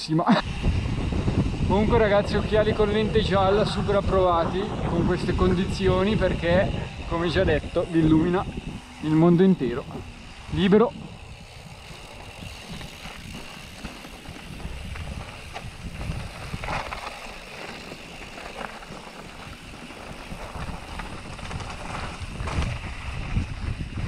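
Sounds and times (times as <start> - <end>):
bike rattling over bumps: 0.4 - 24.0
steady low rumble: 0.4 - 24.0
bike tyres crunching on gravel: 0.5 - 24.0.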